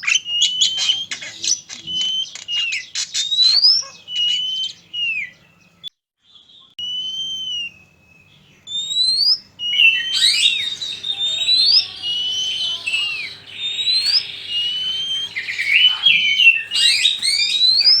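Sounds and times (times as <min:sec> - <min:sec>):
bird singing whistled notes: 0:00.0 - 0:05.8, 0:06.8 - 0:18.0.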